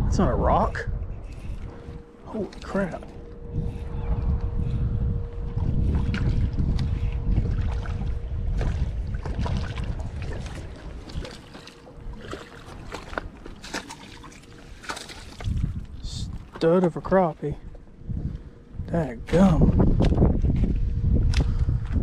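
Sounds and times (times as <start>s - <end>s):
wind rumble on microphone: 0.0s - 22.0s.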